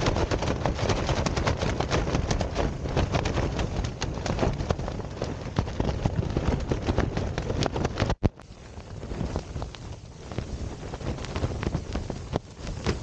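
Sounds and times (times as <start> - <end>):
low rumble of wind: 0.0 - 13.0
tent flysheet flapping and snapping: 0.0 - 13.0.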